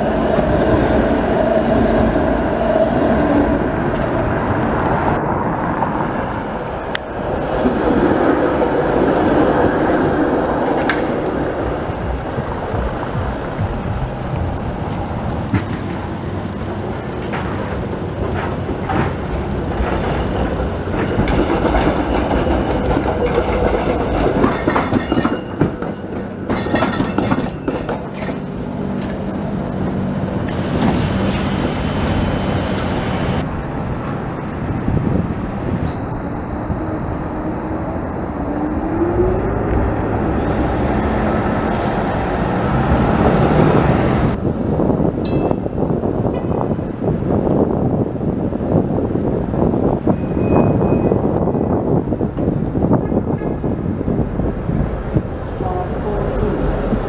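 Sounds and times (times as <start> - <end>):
city traffic: 0.0 - 57.0
streetcar wheels clattering over rails: 0.0 - 57.0.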